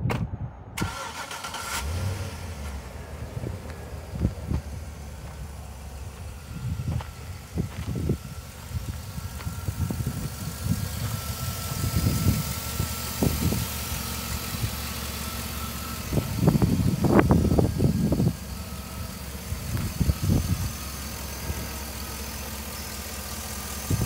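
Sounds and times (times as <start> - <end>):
car engine idling: 0.8 - 24.0.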